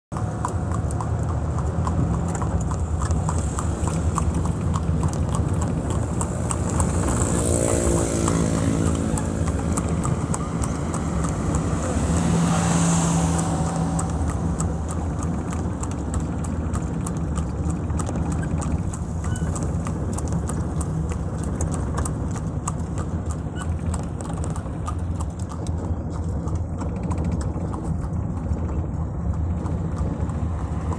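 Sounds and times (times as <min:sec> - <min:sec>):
cart rumble: 0:00.1 - 0:30.9
horse hooves clip-clopping: 0:00.2 - 0:30.9.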